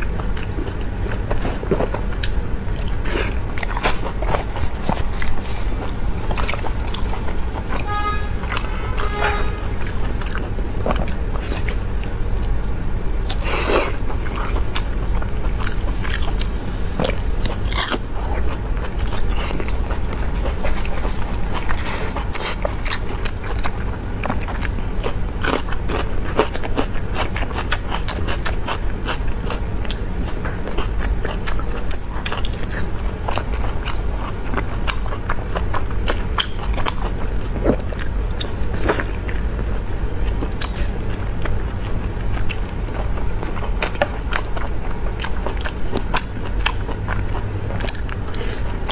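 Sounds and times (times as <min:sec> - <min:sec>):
biting and chewing meat: 0:00.0 - 0:48.9
steady low hum: 0:00.0 - 0:48.9.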